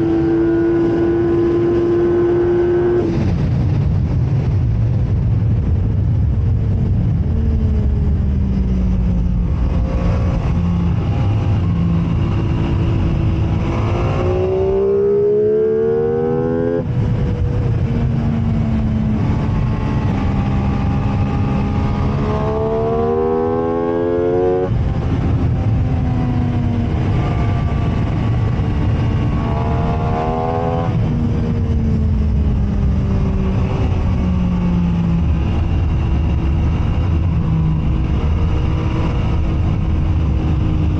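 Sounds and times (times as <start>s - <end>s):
motorcycle engine revving: 0.0s - 3.5s, 7.2s - 40.9s
wind and road noise: 0.0s - 40.9s.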